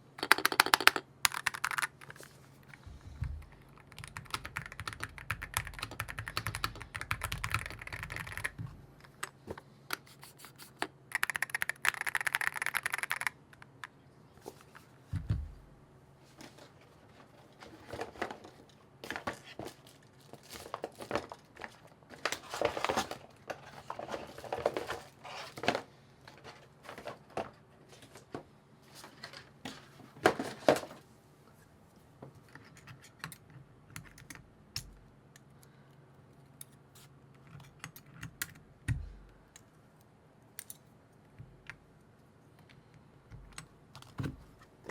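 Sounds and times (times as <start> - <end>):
rustling and handling noise: 0.0 - 38.2.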